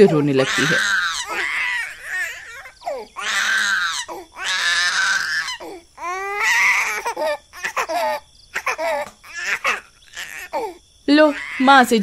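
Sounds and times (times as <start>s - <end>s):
baby crying loudly: 0.0s - 11.8s.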